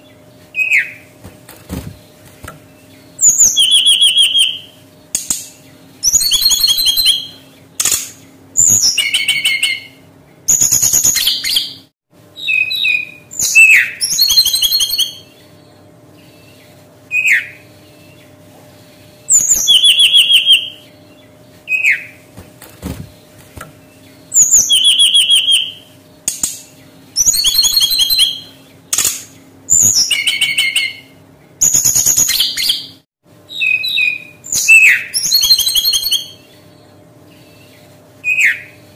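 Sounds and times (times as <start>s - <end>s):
bird trilling song: 0.0s - 1.1s, 1.7s - 38.8s.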